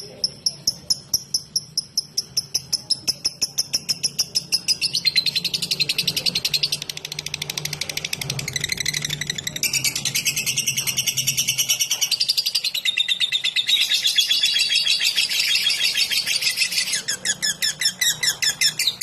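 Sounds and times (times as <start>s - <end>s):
lovebird chirping: 0.0s - 19.0s.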